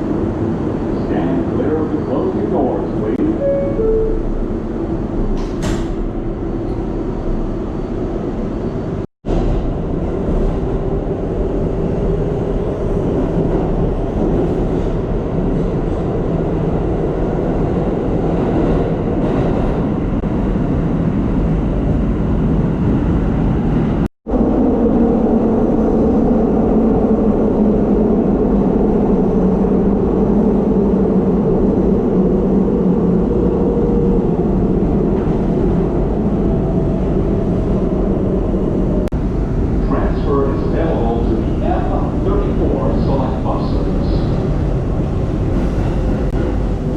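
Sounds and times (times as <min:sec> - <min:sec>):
subway train rumbling: 0:00.0 - 0:46.9.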